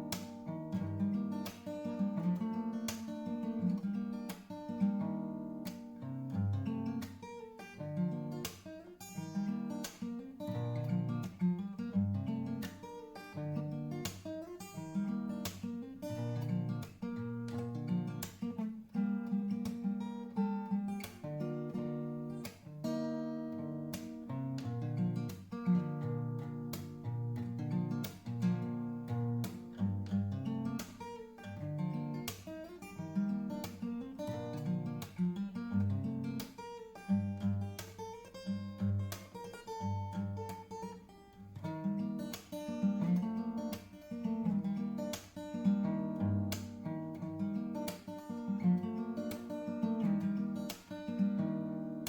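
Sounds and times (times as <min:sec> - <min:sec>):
acoustic guitar strumming: 0:00.0 - 0:52.0.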